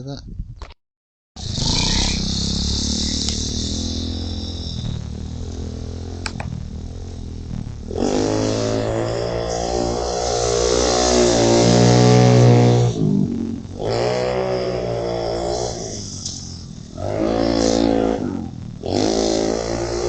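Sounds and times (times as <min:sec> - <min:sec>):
pit bike engine running: 0:01.4 - 0:20.0.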